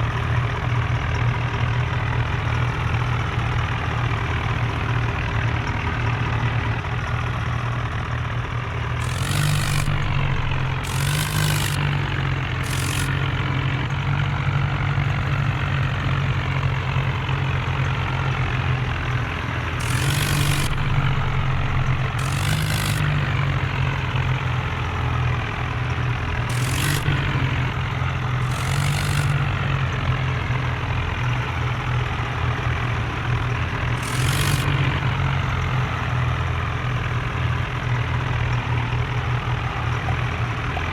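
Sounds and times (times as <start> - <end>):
diesel tractor engines rumbling: 0.0 - 40.9.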